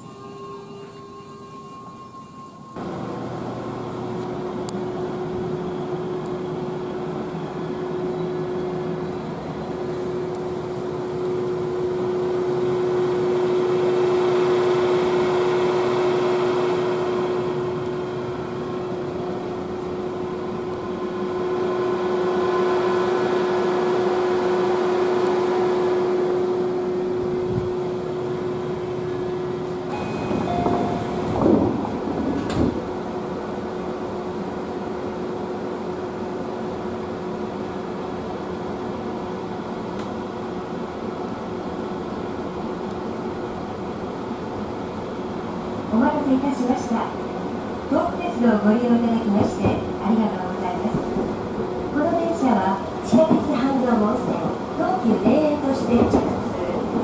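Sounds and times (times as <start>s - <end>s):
train interior hum: 0.0s - 57.0s.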